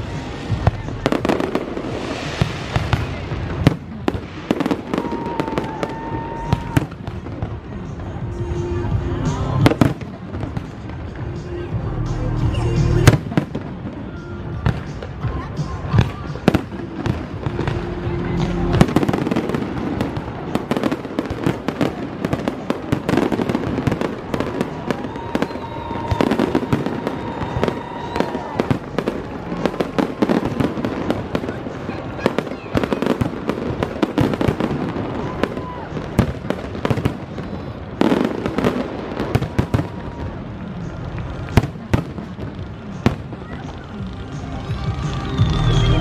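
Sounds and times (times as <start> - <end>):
fireworks bangs and pops: 0.0 - 45.9.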